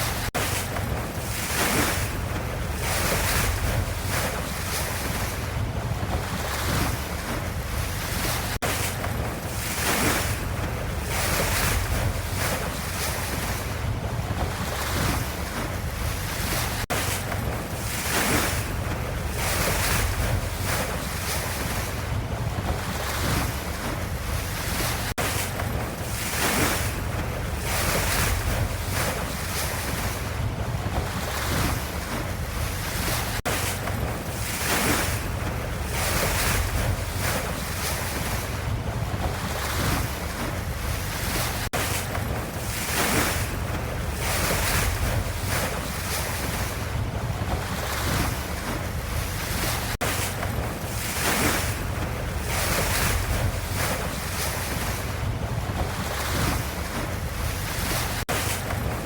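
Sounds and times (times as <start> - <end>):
ocean waves: 0.0 - 59.0.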